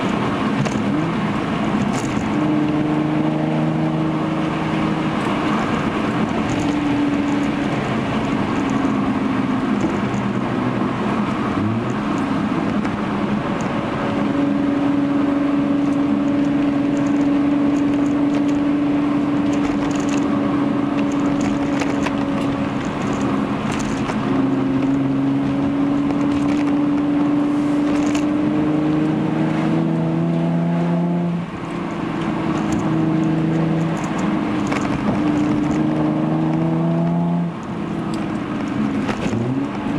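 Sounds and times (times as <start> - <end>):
car exhaust drone: 0.0 - 39.9
road noise: 0.0 - 39.9.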